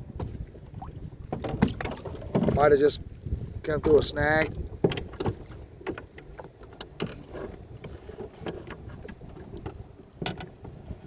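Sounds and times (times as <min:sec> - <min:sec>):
waves slapping against hull: 0:00.0 - 0:11.0
wind rumble on microphone: 0:00.0 - 0:11.0.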